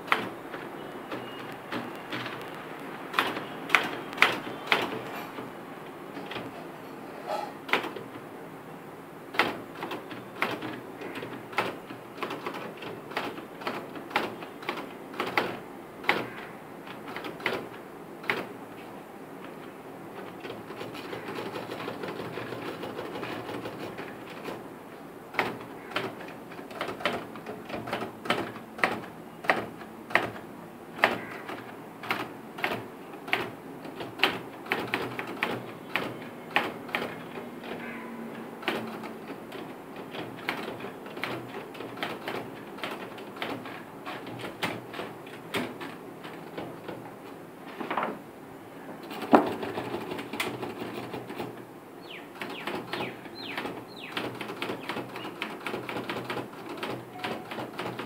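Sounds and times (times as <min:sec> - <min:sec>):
typewriter keys striking: 0:00.0 - 0:05.5, 0:07.6 - 0:08.2, 0:09.3 - 0:18.6, 0:20.2 - 0:24.6, 0:25.3 - 0:47.3, 0:49.0 - 0:51.6, 0:52.3 - 0:58.0.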